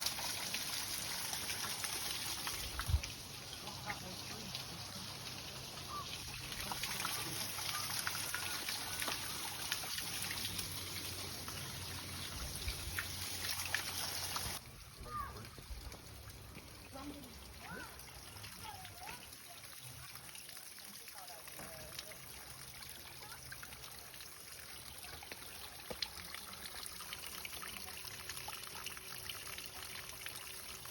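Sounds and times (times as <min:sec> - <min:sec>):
water splashes and drips: 0:00.0 - 0:30.9.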